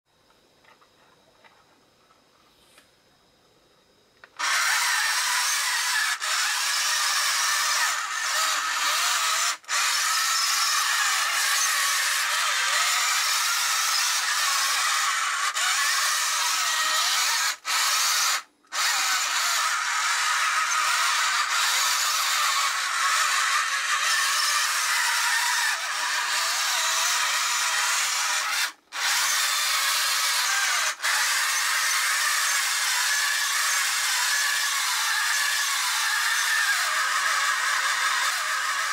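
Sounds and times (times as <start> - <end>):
model tank motors whirring: 4.2 - 38.9.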